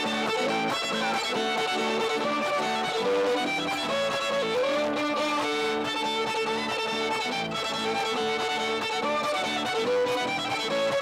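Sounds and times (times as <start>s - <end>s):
fiddle melody: 0.0s - 11.0s
guitar chords: 0.0s - 11.0s.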